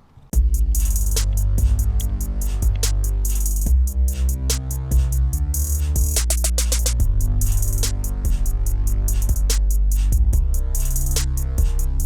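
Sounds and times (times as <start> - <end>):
electronic beat music: 0.4 - 12.0.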